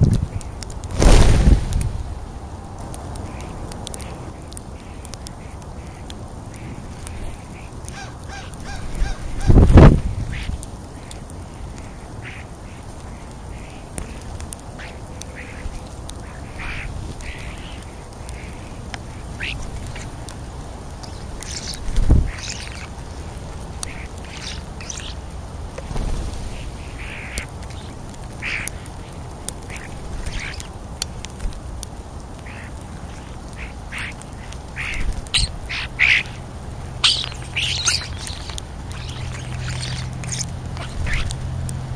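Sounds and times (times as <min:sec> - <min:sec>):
birds giving harsh calls: 0:03.2 - 0:31.4, 0:32.3 - 0:41.6.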